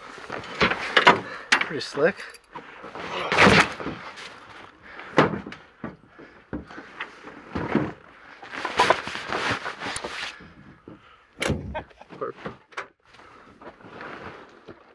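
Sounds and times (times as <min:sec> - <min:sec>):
saddles knocking and thudding: 0:00.0 - 0:01.8, 0:02.4 - 0:12.9.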